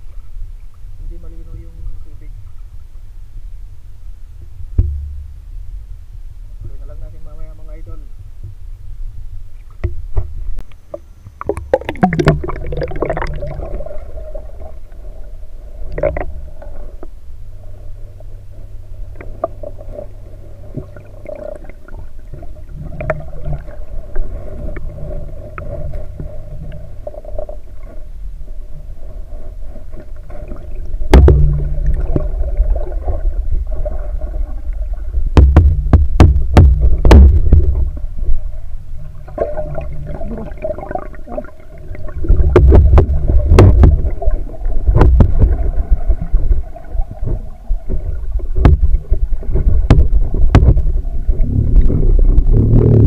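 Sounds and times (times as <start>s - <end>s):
underwater river gurgling: 0.0s - 53.0s.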